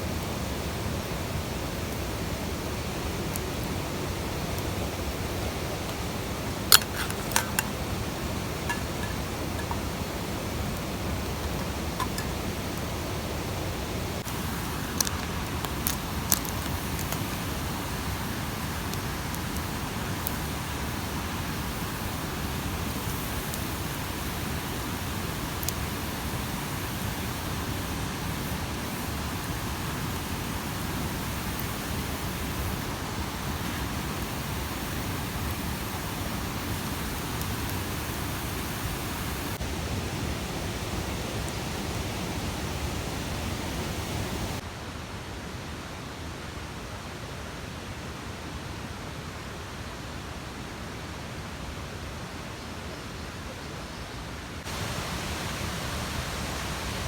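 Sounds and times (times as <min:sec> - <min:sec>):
mountain stream rushing: 0:00.0 - 0:52.5, 0:54.6 - 0:57.0.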